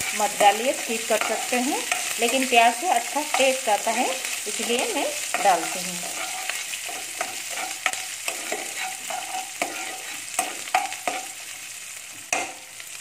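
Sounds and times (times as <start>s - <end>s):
steel spoon scraping a pan: 0.0s - 13.0s
vegetables sizzling in hot oil: 0.0s - 13.0s.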